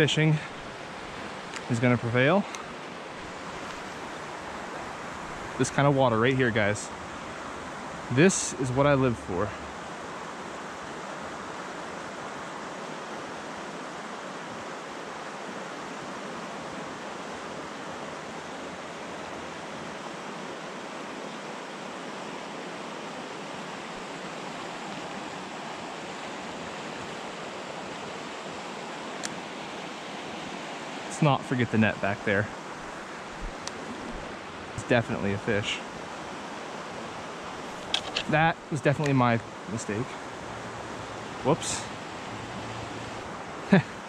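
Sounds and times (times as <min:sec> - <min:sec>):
creek water flowing: 0:00.0 - 0:44.0.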